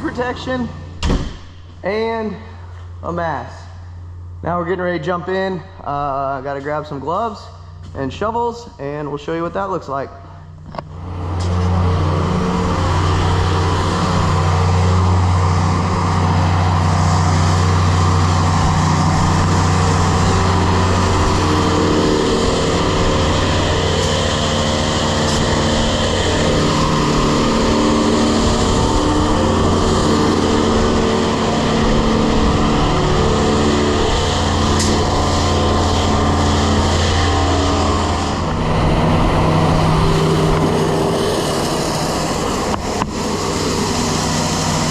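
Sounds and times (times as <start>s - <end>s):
grain vacuum running: 0.0s - 1.0s, 1.6s - 44.9s.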